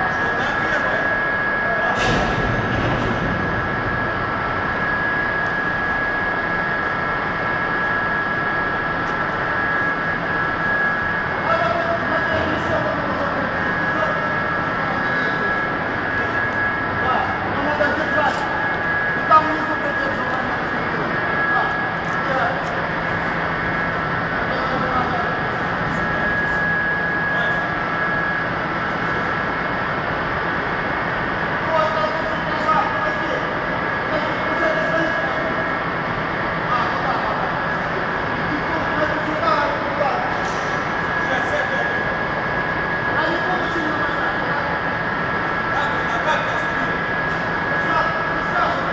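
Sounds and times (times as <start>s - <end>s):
high whining tones: 0.0s - 45.7s
machine running: 0.0s - 48.9s.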